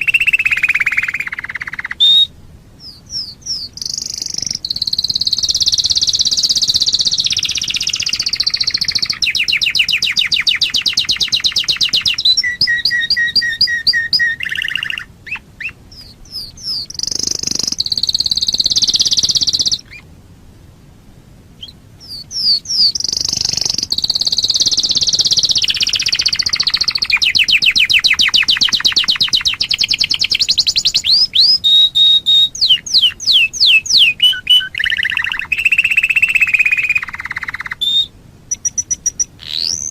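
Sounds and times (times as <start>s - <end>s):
canary singing trills: 0.0s - 20.1s, 21.6s - 39.9s.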